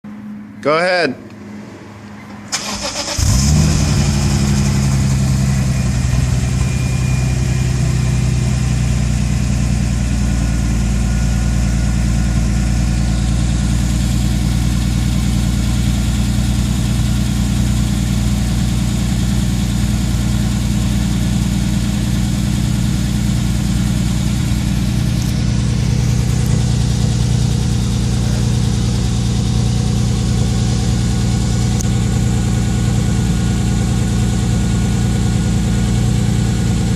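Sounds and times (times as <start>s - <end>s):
car engine starting and idling: 1.3s - 36.9s.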